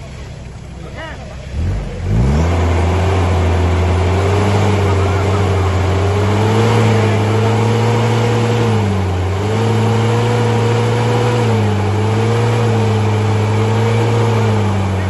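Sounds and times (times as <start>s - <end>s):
engine running hard under load: 0.0s - 15.0s.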